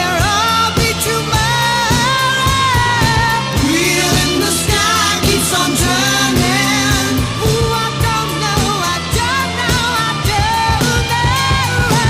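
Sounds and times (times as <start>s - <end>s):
song with singing over beat: 0.0s - 12.0s.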